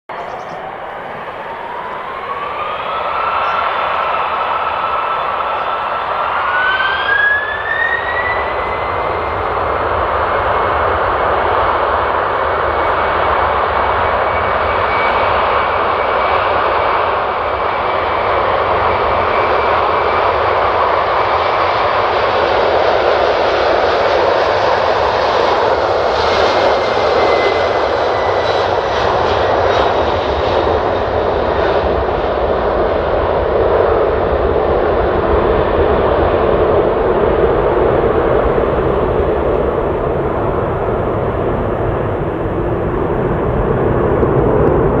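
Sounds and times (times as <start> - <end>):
jet engines at takeoff power: 0.1 - 45.0.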